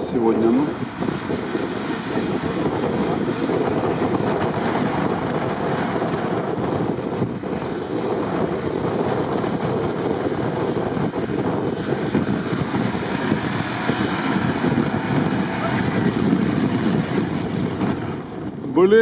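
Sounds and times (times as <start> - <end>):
wind buffeting microphone: 0.0 - 19.0
vehicle driving through snow: 0.6 - 18.6.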